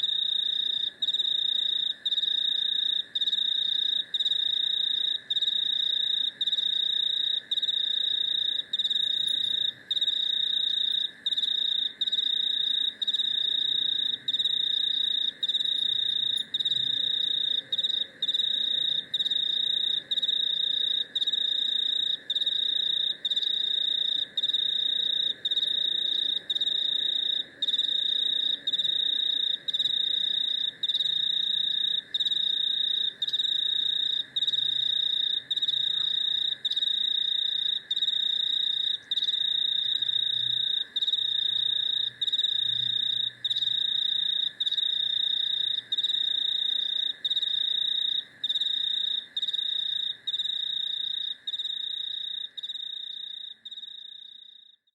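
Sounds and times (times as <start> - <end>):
crickets and cicadas trilling: 0.0 - 54.3.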